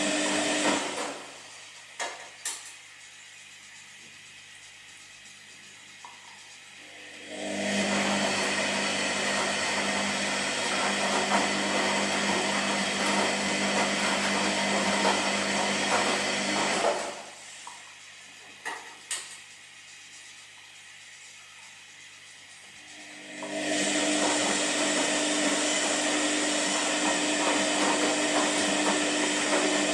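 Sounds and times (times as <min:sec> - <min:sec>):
washing machine running: 0:00.0 - 0:29.9.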